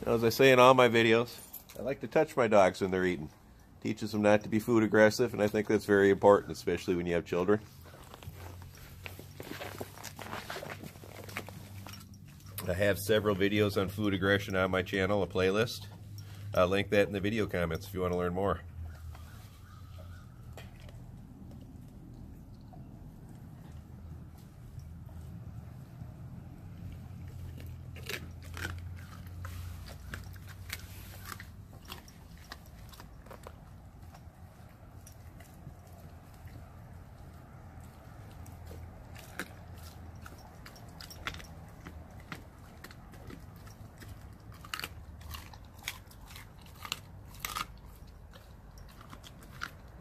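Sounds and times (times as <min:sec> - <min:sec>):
dog chewing and crunching bones: 0:00.0 - 0:50.0.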